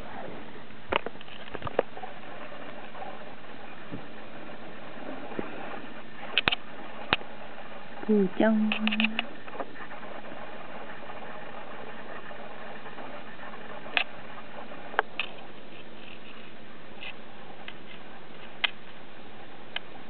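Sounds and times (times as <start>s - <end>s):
recording hiss: 0.0s - 20.0s.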